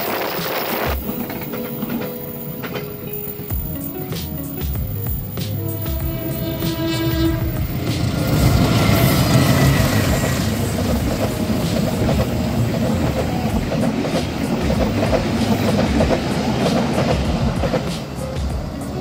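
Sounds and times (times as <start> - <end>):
diesel locomotive passing: 0.0 - 19.0
train wheels clattering on track: 0.0 - 19.0.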